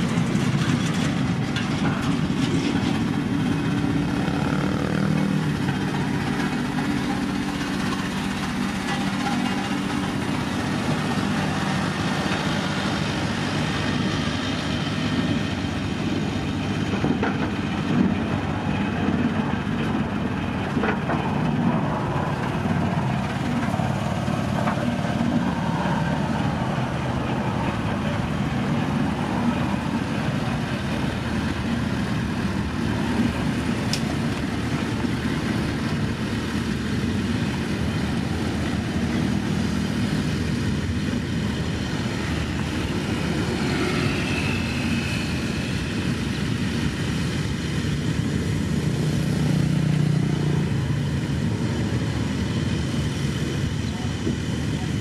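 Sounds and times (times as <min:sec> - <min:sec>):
diesel road rollers running: 0:00.0 - 0:55.0
rollers on loose gravel: 0:00.0 - 0:55.0.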